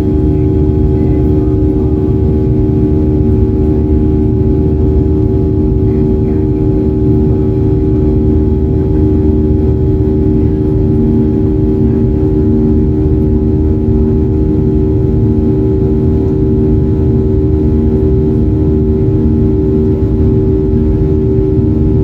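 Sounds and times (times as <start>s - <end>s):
aircraft cabin engine rumble: 0.0s - 22.0s
steady hum of held tones: 0.0s - 22.0s.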